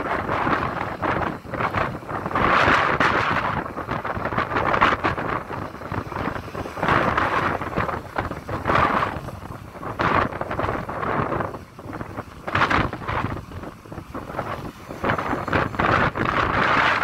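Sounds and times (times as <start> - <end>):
excavator diesel engine under load: 0.0 - 17.0
wind buffeting microphone: 0.0 - 17.0.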